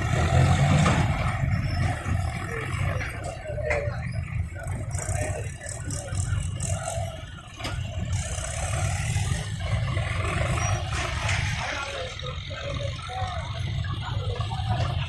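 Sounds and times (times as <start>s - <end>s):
engine rattling: 0.0s - 15.0s
tractor diesel engine drone: 0.0s - 15.0s.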